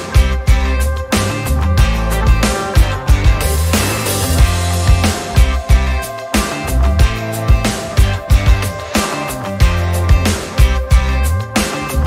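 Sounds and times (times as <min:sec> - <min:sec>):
band music with drum beat and bass: 0:00.0 - 0:12.0.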